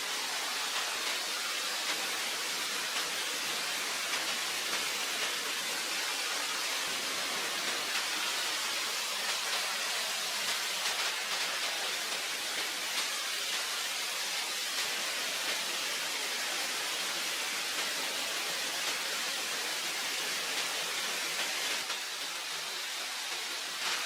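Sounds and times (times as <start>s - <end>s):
rushing water hiss: 0.0s - 24.0s.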